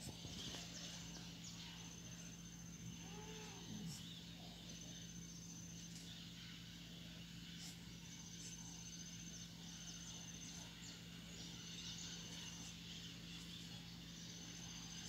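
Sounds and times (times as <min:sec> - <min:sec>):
distant birds chirping: 0:00.0 - 0:15.0
steady low hum: 0:00.0 - 0:15.0.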